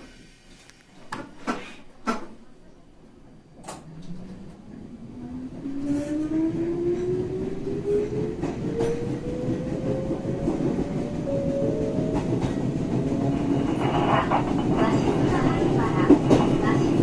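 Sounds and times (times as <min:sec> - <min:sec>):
rumble of running train car: 0:03.2 - 0:17.0.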